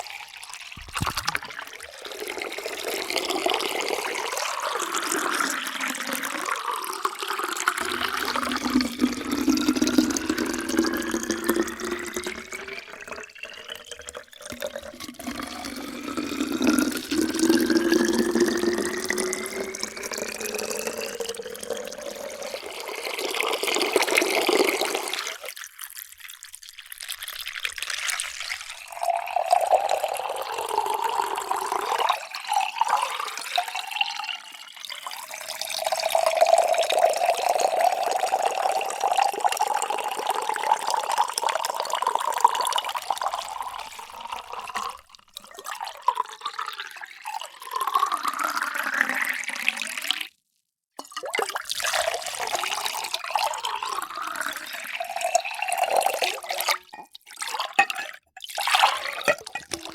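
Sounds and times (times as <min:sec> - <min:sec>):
water pouring into container: 0:00.0 - 0:59.9.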